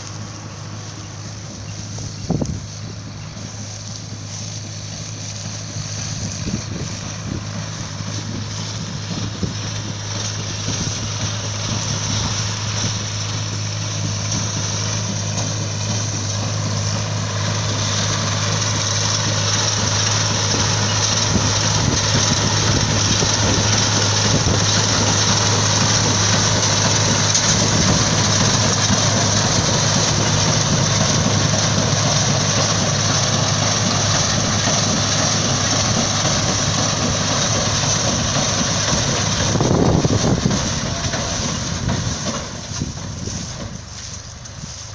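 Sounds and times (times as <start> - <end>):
hay baler rattling: 0.0 - 44.9
tractor engine drone: 0.0 - 44.9.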